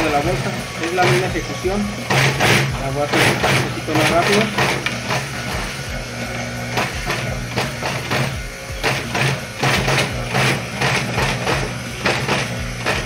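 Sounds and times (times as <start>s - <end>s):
sewing machine needle strokes: 0.0s - 5.8s, 6.8s - 13.0s
sewing machine motor hum: 0.0s - 13.0s.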